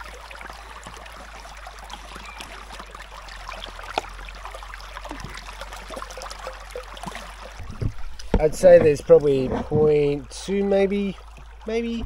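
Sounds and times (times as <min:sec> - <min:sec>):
creek water trickling over stones: 0:00.0 - 0:12.0.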